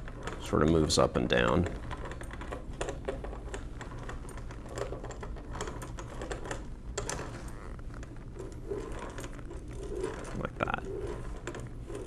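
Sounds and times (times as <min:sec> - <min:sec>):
mechanical calculator gears clicking: 0:00.0 - 0:12.0.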